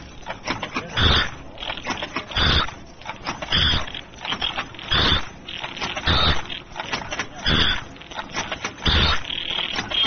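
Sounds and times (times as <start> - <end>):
mask making machine cycling: 0.0 - 10.0
small machine clicks: 0.0 - 10.0.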